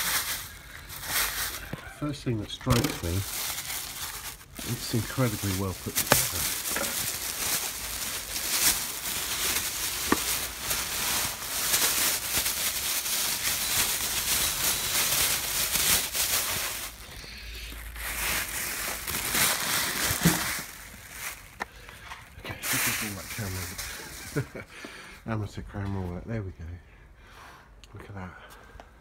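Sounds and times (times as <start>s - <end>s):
plastic wrap crinkling: 0.0s - 24.6s.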